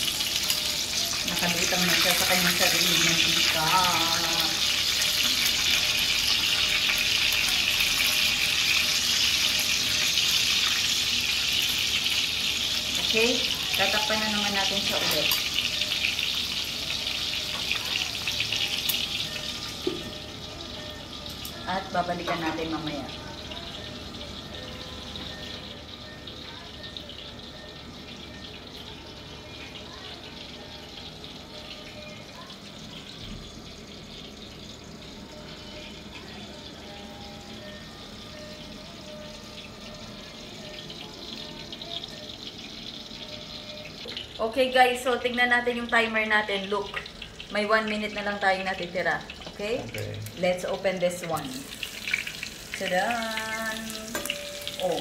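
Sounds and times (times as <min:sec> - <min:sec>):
meat sizzling in fat: 0:00.0 - 0:24.6, 0:25.2 - 0:55.0.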